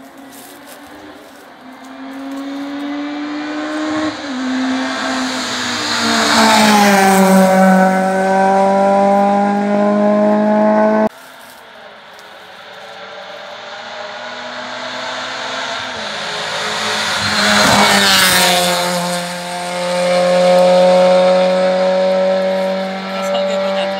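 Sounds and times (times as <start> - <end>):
rally car passing at speed: 0.3 - 11.1, 12.6 - 23.9.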